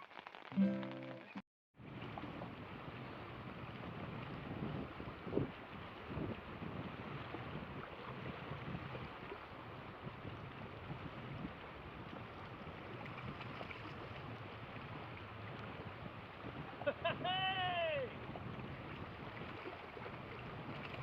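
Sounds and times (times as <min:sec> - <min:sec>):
moving water: 0:00.0 - 0:21.0
wind on microphone: 0:01.8 - 0:17.4, 0:18.0 - 0:21.0.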